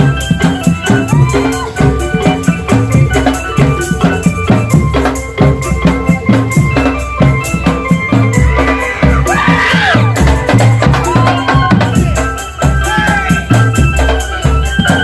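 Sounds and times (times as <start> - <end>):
melody of held notes: 0.0 - 15.0
rapid dense drumming: 0.0 - 15.0
shaker percussion: 0.0 - 15.0.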